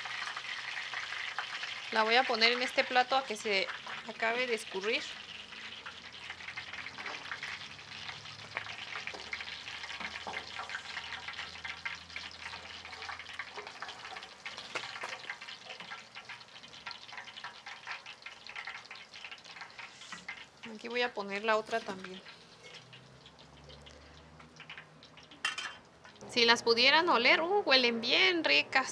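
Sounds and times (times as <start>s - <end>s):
hot oil crackling: 0.0s - 28.9s.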